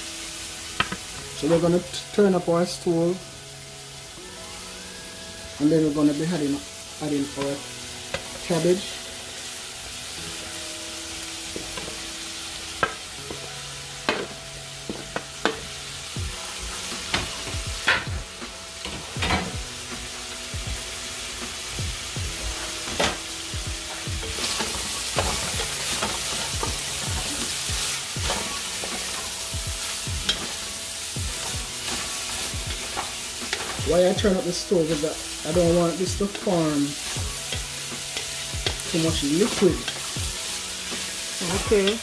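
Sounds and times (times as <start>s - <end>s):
vegetables sizzling in a frying pan: 0.0s - 42.0s.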